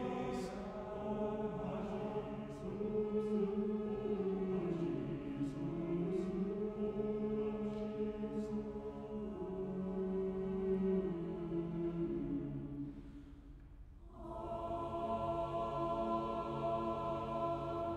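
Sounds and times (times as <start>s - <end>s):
mixed choir singing a cappella: 0.0s - 13.2s, 14.0s - 17.9s.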